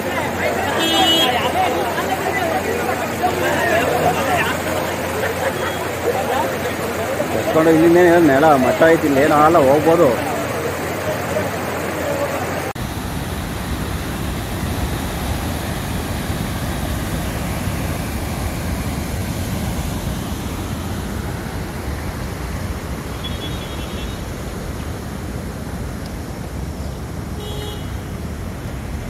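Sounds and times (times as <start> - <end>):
floodwater rushing across road: 0.0 - 29.0.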